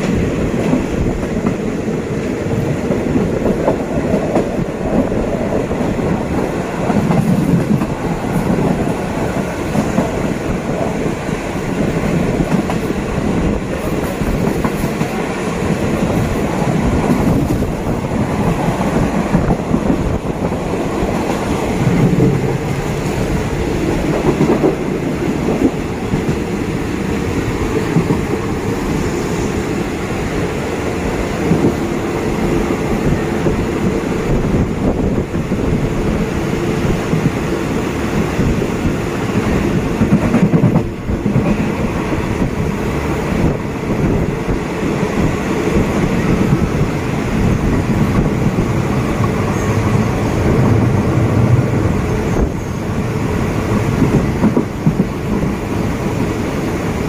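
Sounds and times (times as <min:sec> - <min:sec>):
train knocks: 0:00.0 - 0:57.0
train wheels rumbling on rails: 0:00.0 - 0:57.0.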